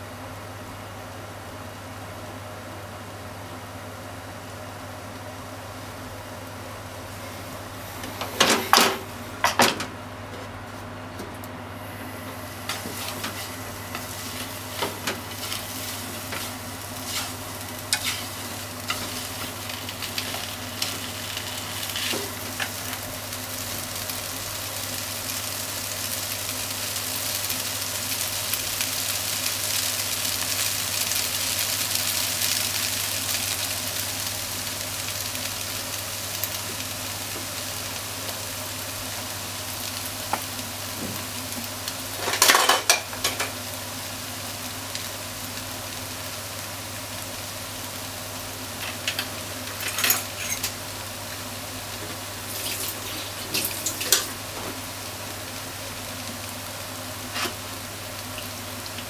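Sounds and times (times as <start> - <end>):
food sizzling in a pan: 11.7 - 59.0.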